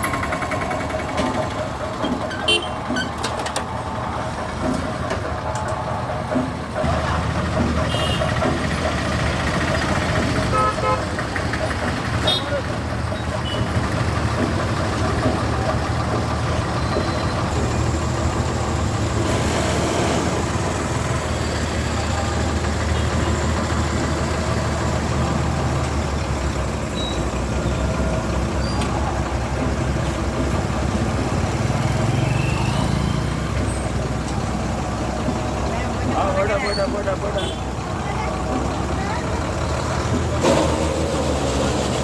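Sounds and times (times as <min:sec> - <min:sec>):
traffic noise: 0:00.0 - 0:42.0
vehicle engine idling: 0:00.0 - 0:42.0.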